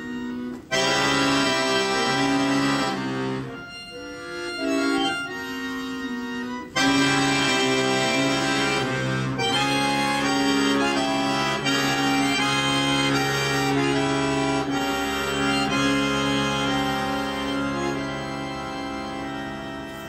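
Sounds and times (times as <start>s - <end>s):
button accordion playing chords: 0.0s - 20.0s.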